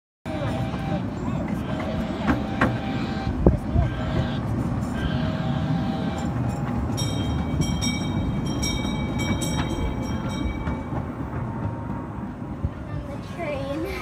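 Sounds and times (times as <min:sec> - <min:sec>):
locomotive idling: 0:00.3 - 0:14.0.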